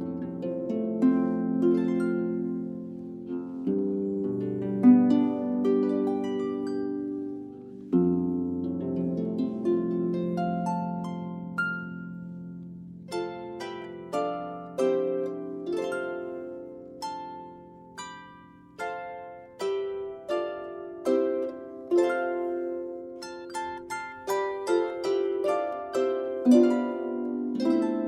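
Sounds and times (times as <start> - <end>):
harp playing gentle melody: 0.0 - 28.0.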